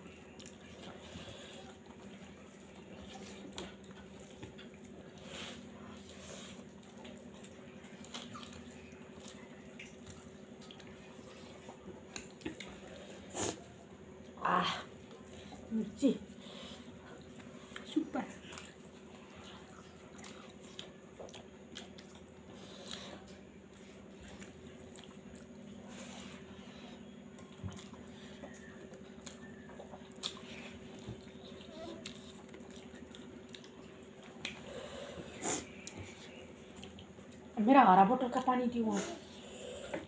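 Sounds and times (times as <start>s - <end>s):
wet chewing and lip-smacking: 0.0s - 15.7s, 16.5s - 37.6s
steady low hum: 0.0s - 40.0s.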